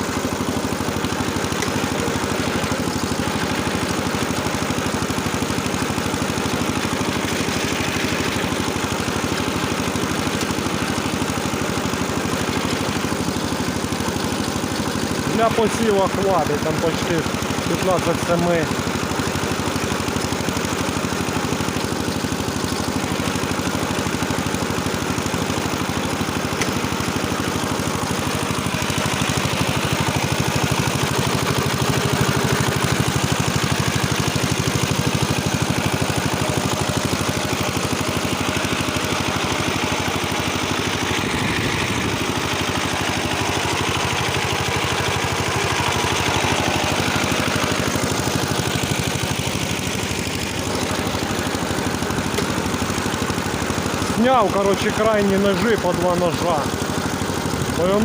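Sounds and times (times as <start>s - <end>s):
tractor tiller engine running: 0.0s - 58.0s.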